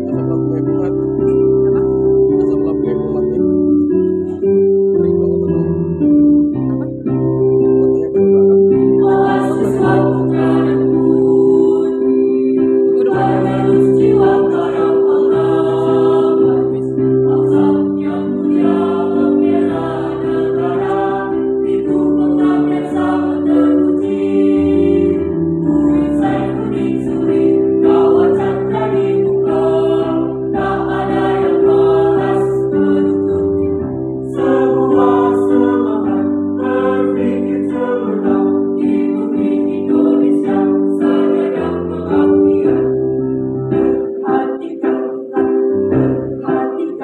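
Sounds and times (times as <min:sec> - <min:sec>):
electronic keyboard chords: 0:00.0 - 0:47.0
mixed choir singing: 0:08.8 - 0:43.1, 0:43.7 - 0:47.0.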